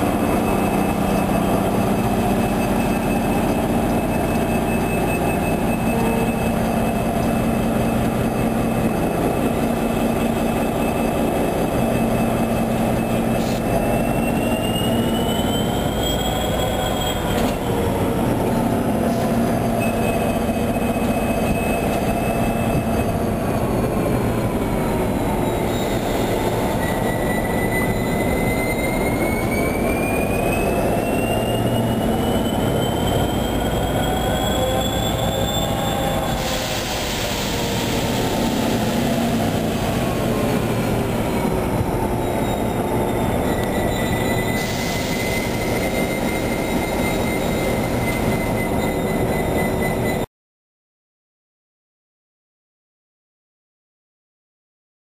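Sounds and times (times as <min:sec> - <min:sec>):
diesel locomotive idling: 0:00.0 - 0:50.2.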